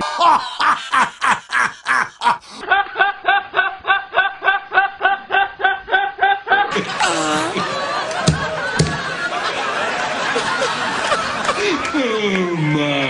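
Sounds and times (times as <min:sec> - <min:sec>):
men laughing hard: 0:00.0 - 0:12.2.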